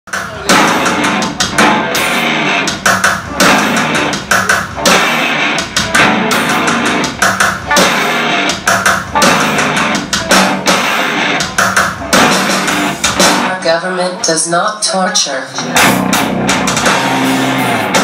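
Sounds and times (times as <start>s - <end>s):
rock band playing: 0.1s - 18.0s.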